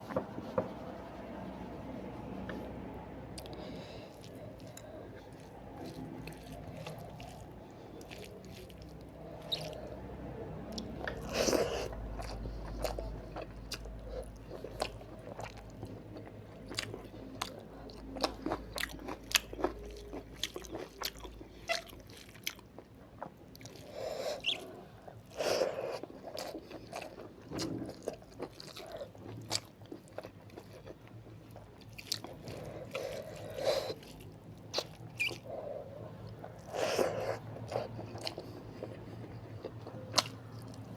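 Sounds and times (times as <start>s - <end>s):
chewing crunchy food: 0.0s - 40.9s.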